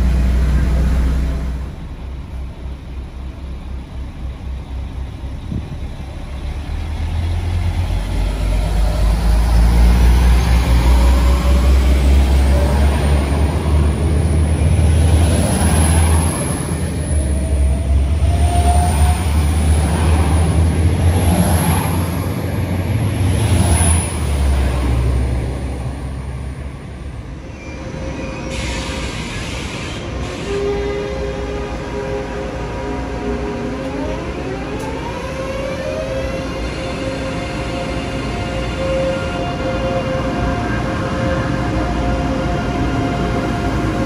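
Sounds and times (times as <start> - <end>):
electric train rumbling past: 0.0 - 44.0.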